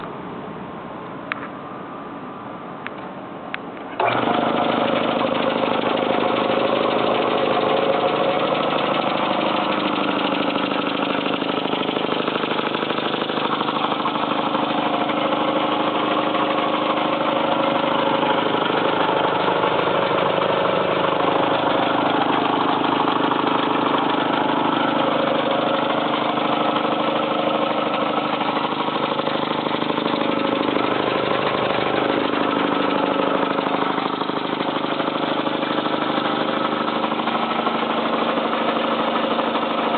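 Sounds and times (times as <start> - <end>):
air compressor running: 3.9 - 39.9.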